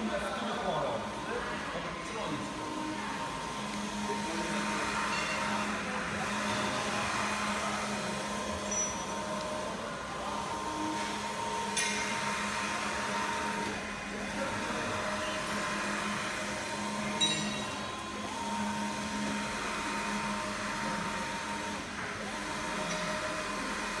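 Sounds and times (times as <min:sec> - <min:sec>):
printer carriage whirring: 0:00.0 - 0:24.0
steady machine hum: 0:00.0 - 0:24.0.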